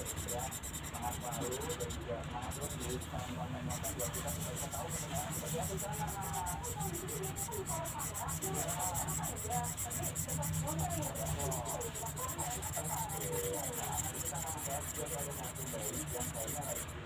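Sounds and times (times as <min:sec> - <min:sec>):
marker scribbling on paper: 0:00.0 - 0:17.0.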